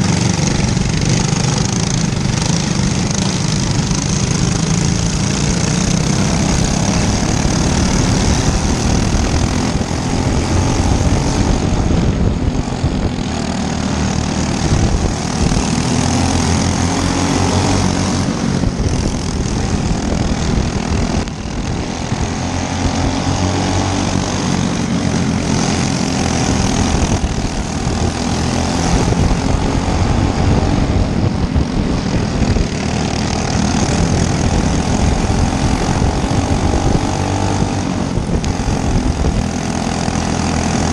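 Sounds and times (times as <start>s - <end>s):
kart engines at high revs: 0.0s - 40.9s.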